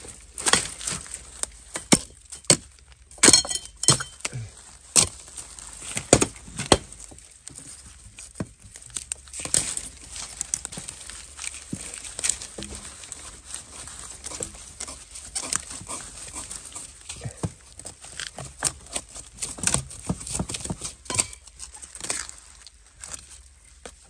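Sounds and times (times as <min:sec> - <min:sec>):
dry leaves crackling and rustling: 0:00.0 - 0:24.0
sharp snaps and knocks: 0:00.4 - 0:13.2, 0:14.2 - 0:24.0.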